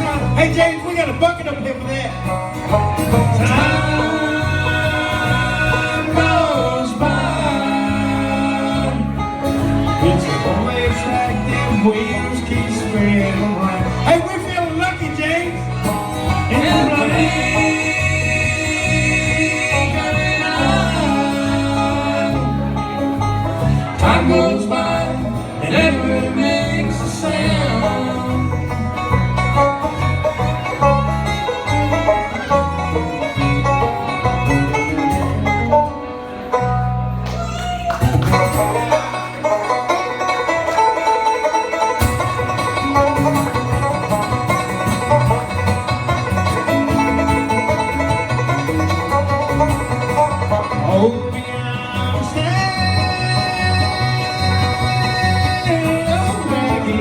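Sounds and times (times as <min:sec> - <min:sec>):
banjo: 0:00.0 - 0:57.0
bluegrass band playing: 0:00.0 - 0:57.0.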